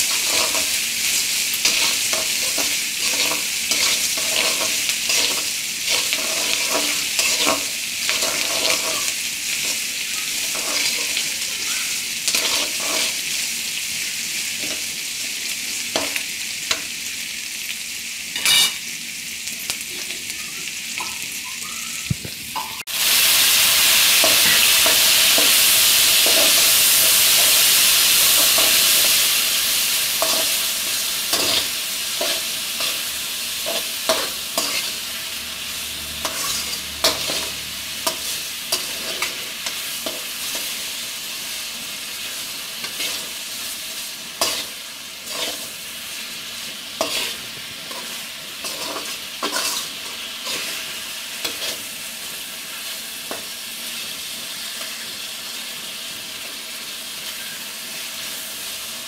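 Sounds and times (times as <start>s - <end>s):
onions sizzling in hot oil: 0.0s - 59.0s
tomatoes sizzling in hot oil: 0.0s - 59.0s.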